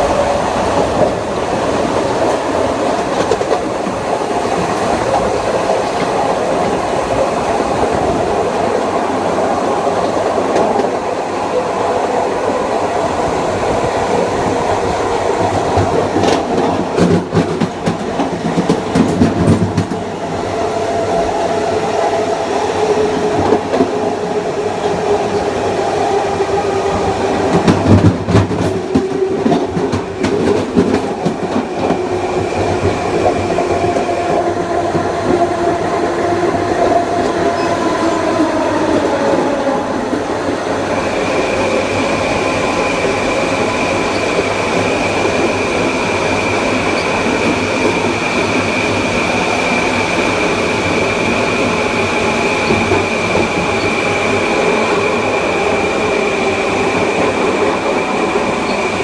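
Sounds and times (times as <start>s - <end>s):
train wheel-on-rail rumble: 0.0s - 59.0s.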